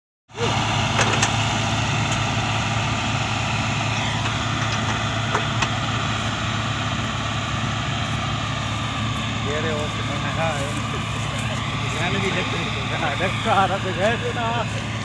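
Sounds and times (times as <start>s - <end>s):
harvester engine running: 0.3s - 15.0s.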